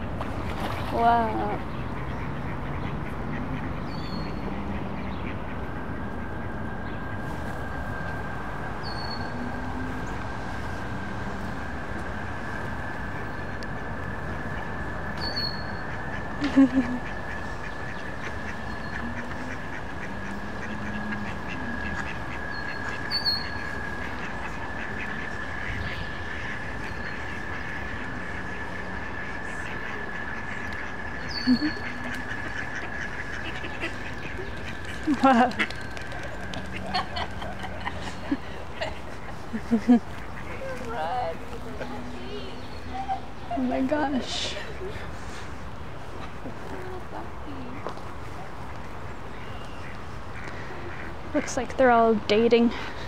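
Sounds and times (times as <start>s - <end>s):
ducks quacking: 0.6s - 6.5s, 12.1s - 53.0s.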